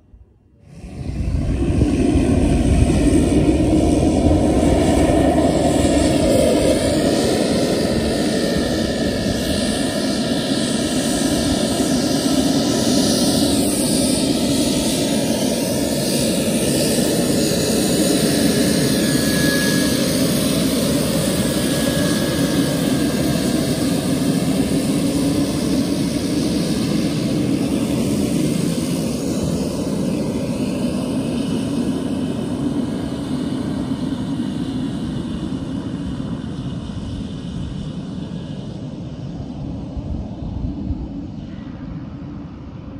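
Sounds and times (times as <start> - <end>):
turboprop aircraft taxiing: 0.6 - 42.9.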